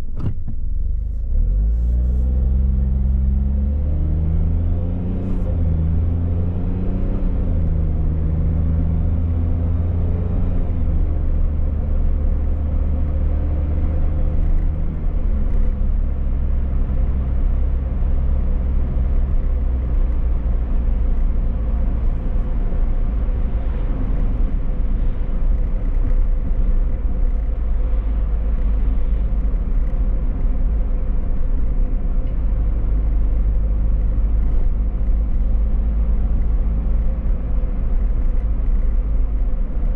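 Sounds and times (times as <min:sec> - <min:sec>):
road rumble: 0:00.0 - 0:39.9
car engine accelerating: 0:00.2 - 0:39.9.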